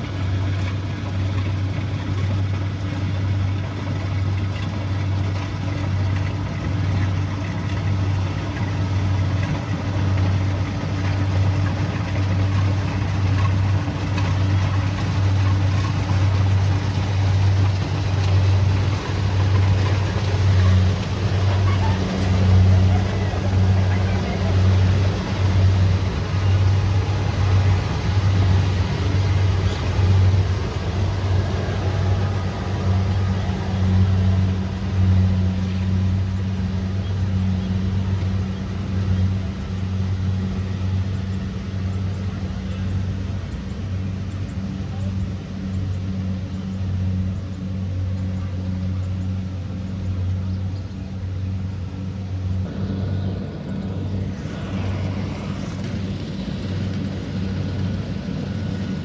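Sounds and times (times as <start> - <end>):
combine harvester diesel drone: 0.0 - 59.0
machinery noise: 0.0 - 59.0.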